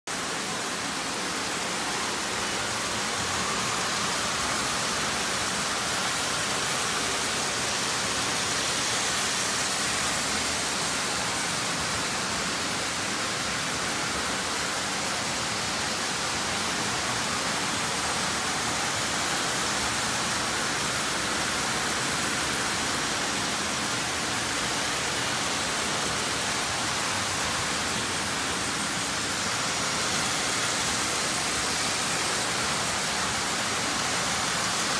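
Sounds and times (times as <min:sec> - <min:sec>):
toy trains whirring on metal track: 0:00.1 - 0:34.9.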